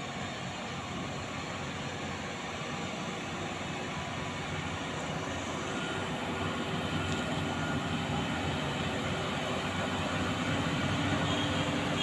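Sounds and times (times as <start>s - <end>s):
heavy truck engine rumble: 0.0s - 12.0s.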